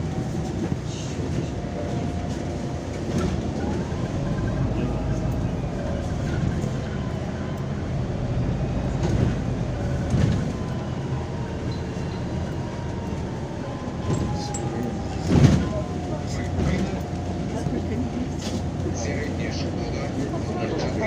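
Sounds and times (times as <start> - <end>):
bus engine and tyres rumbling: 0.0 - 21.0
bus knocking over bumps: 1.4 - 19.0.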